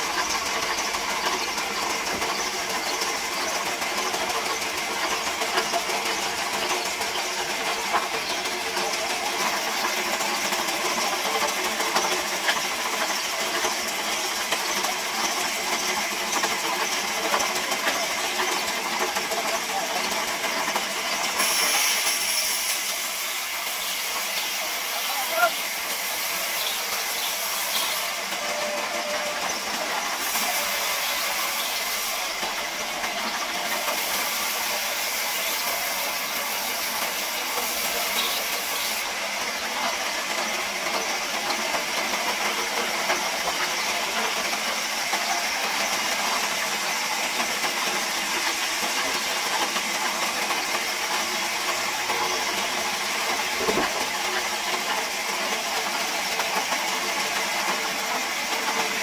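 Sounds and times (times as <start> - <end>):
band saw cutting log: 0.0 - 39.2, 39.9 - 54.2.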